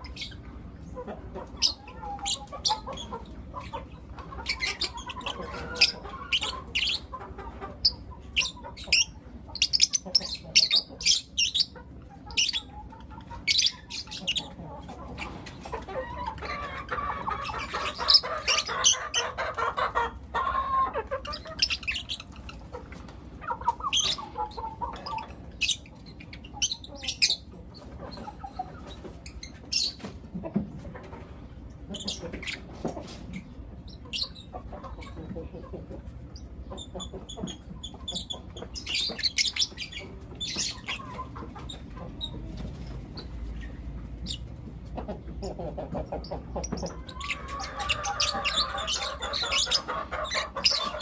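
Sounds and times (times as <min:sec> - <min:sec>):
lovebirds chirping: 0:00.0 - 0:30.1, 0:33.3 - 0:44.6, 0:45.3 - 0:51.0.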